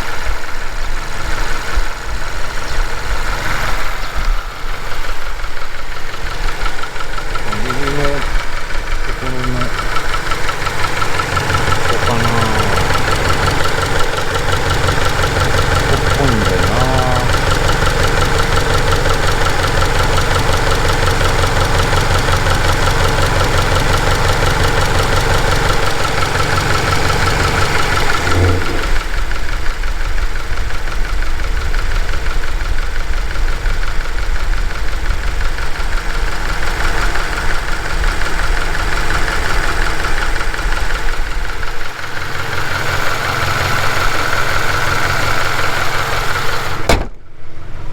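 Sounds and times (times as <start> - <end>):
engine clicking and tapping: 0.0 - 47.2
car engine idling: 0.0 - 47.9.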